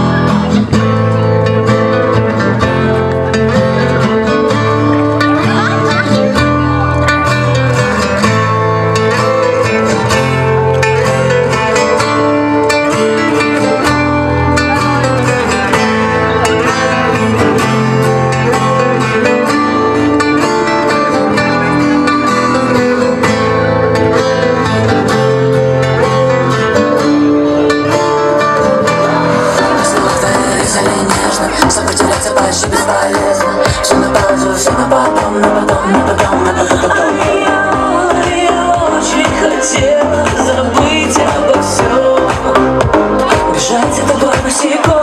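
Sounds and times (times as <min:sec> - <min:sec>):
loud instrumental pop music with guitar: 0:00.0 - 0:45.0.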